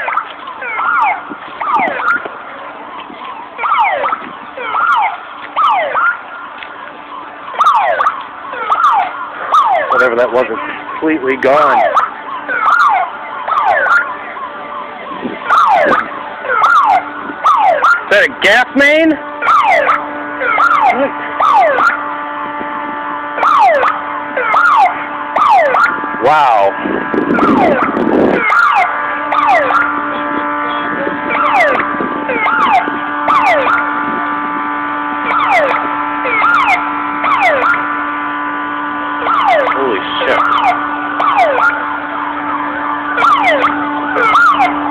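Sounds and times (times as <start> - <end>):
emergency vehicle sirens: 0.0 - 44.9.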